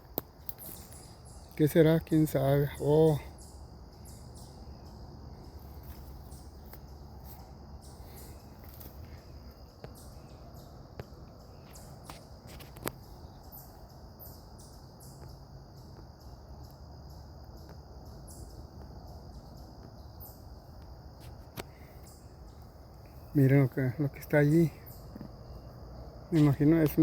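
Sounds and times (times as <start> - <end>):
insects droning: 0.0 - 27.0
very high insect chirps: 0.0 - 27.0.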